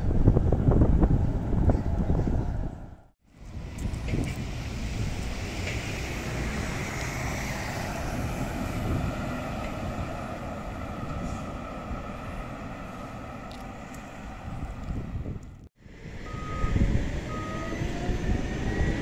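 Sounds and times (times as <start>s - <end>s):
bus and tram rumbling: 0.0s - 19.0s.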